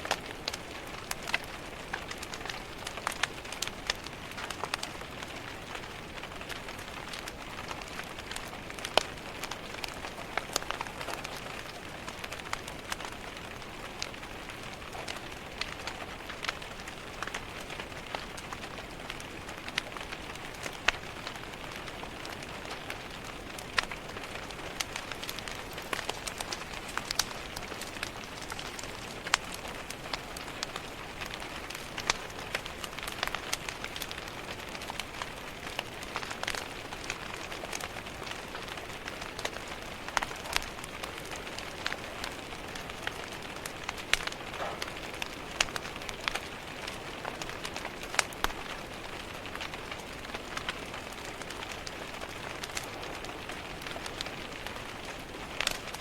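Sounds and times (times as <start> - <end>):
rain pattering on window glass: 0.0 - 56.0
wood fire crackling: 0.0 - 56.0.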